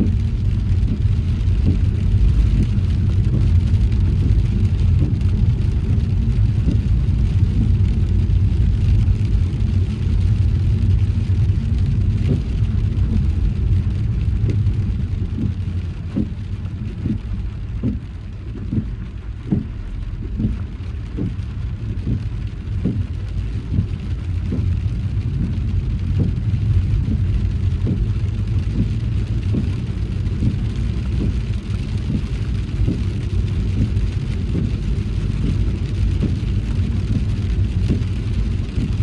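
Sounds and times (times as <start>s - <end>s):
car road and engine rumble: 0.0s - 39.0s
raindrops tapping: 0.0s - 39.0s.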